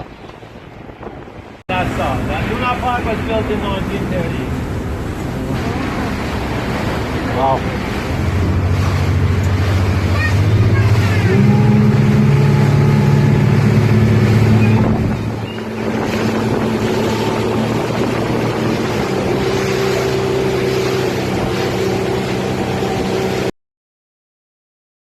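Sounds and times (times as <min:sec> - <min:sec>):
boat engine droning: 0:00.0 - 0:23.5
wind and water rushing: 0:00.0 - 0:23.5.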